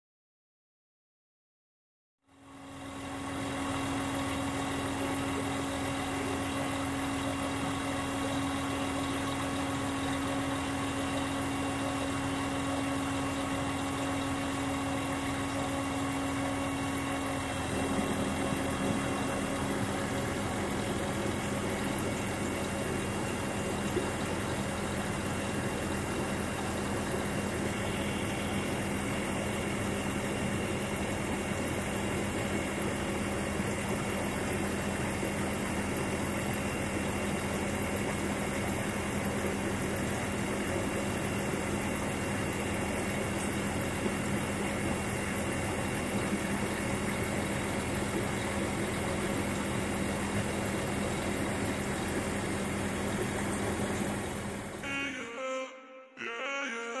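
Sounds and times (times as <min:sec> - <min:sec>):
machine drone: 0:02.3 - 0:56.2.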